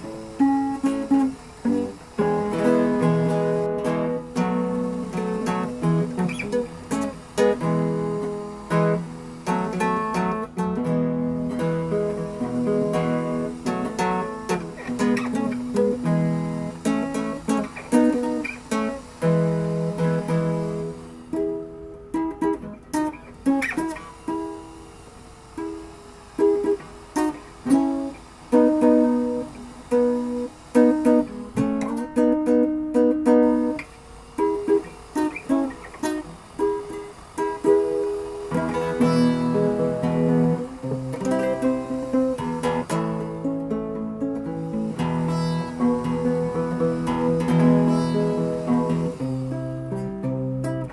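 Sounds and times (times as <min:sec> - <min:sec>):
plucked acoustic guitar: 0:00.0 - 0:50.9.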